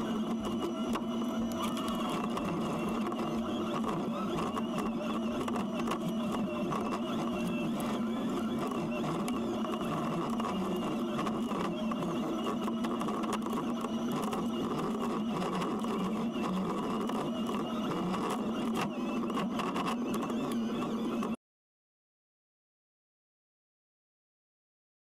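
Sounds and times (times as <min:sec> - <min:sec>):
mulcher mechanical whir with ticks: 0:00.0 - 0:21.4.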